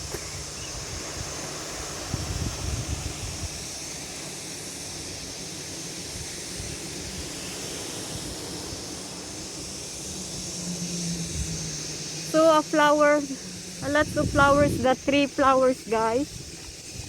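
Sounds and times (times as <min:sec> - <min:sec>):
wind buffeting microphone: 0:00.0 - 0:03.8, 0:06.1 - 0:17.0
sea waves on shore: 0:00.0 - 0:17.0.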